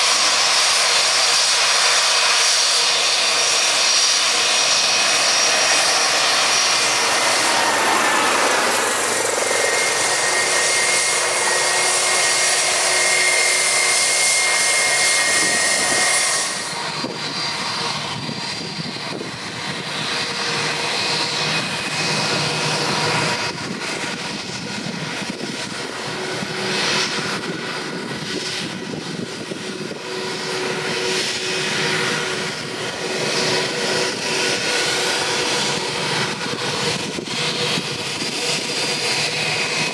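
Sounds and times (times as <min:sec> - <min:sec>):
distant jet engine hum: 0:00.0 - 0:39.9
jet engines whining: 0:00.0 - 0:39.9.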